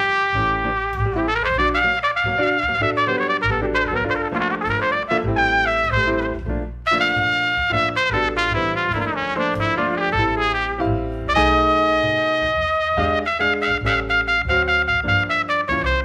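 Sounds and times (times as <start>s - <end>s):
jazz trumpet melody: 0.0s - 16.0s
piano: 0.0s - 16.0s
upright double bass: 0.0s - 16.0s.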